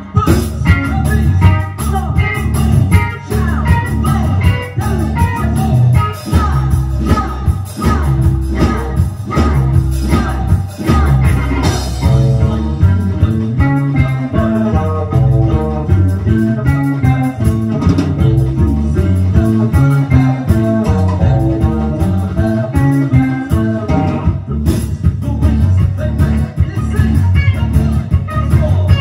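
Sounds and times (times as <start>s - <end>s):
bass guitar: 0.0s - 29.0s
electric guitars: 0.0s - 29.0s
steady drum beat: 0.0s - 29.0s.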